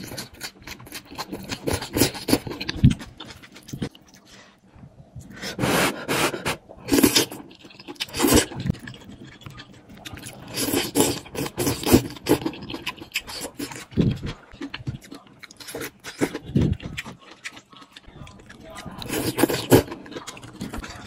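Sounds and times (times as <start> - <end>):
chewing noises: 0.0 - 4.4, 6.8 - 21.0.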